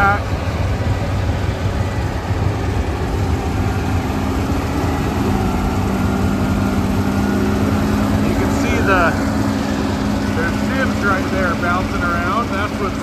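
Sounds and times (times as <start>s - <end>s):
combine harvester drone: 0.0s - 13.0s
steady pitched hum: 0.0s - 13.0s.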